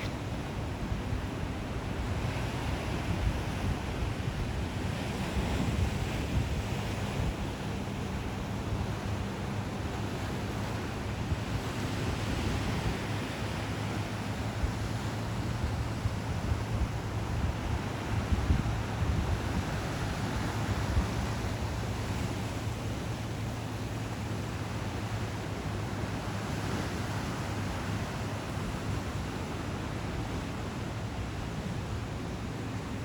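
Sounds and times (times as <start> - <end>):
ocean surf washing in: 0.0 - 33.0
wind rumble on microphone: 0.0 - 33.0.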